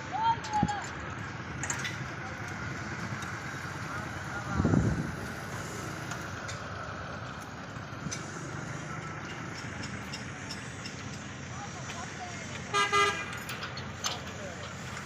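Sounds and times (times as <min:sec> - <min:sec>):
road traffic engines: 0:00.0 - 0:15.0.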